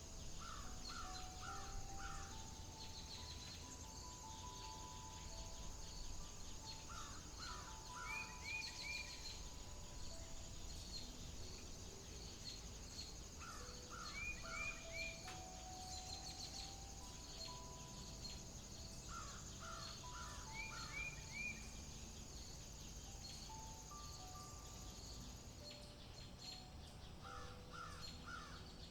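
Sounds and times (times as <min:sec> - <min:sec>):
high insect drone: 0:00.0 - 0:28.9
songbird singing: 0:00.0 - 0:28.9.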